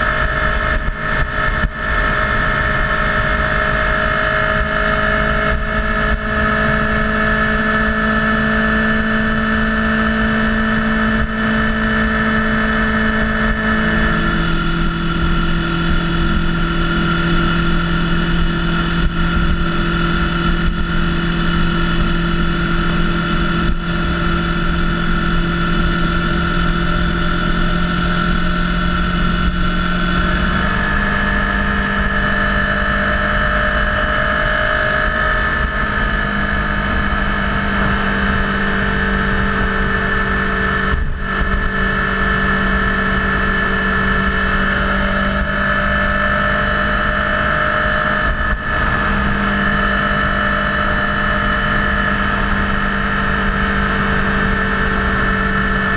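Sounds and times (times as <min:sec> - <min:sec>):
motorcycle engine cruising: 0:00.0 - 0:55.9
wind rumble on microphone: 0:00.0 - 0:55.9.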